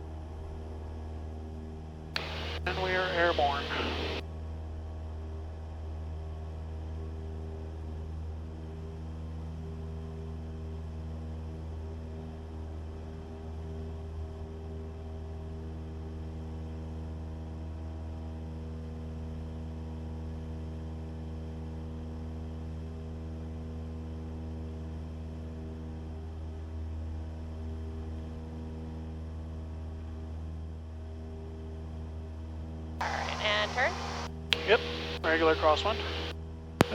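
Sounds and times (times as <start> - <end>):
propeller plane engine droning: 0.0 - 36.9.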